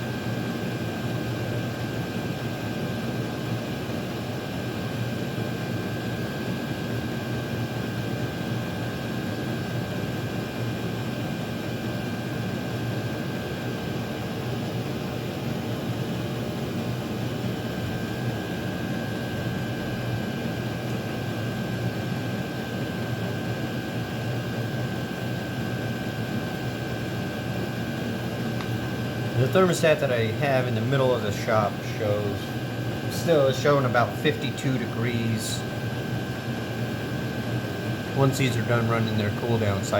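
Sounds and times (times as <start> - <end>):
heater blower fans whirring: 0.0 - 39.9.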